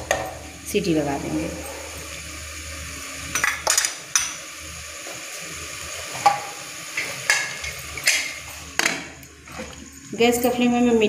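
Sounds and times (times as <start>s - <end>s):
food sizzling in pressure cooker: 0.0s - 11.0s.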